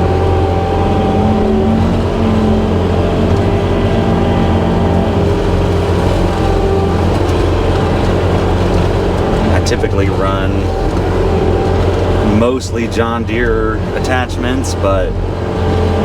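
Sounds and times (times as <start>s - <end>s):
mower cutting grass and brush: 0.0s - 16.0s
skid steer engine and hydraulics: 0.0s - 16.0s.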